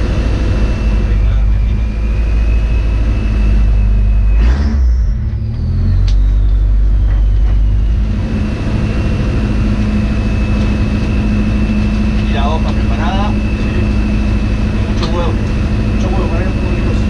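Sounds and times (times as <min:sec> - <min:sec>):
car engine running: 0:00.0 - 0:17.0
high whine falling in pitch: 0:00.0 - 0:17.0.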